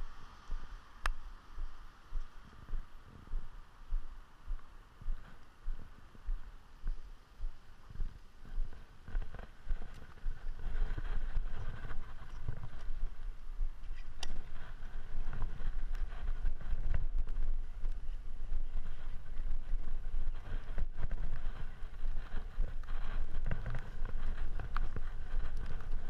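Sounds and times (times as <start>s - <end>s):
bike road noise on wet asphalt: 0.0s - 26.0s
wind rumbling on microphone: 0.0s - 26.0s.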